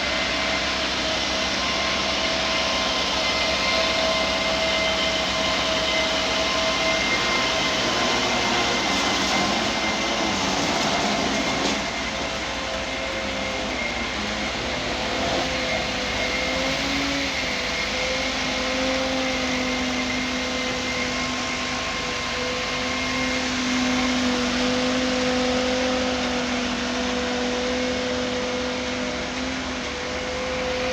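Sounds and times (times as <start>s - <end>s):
diesel machinery running: 0.0s - 30.9s.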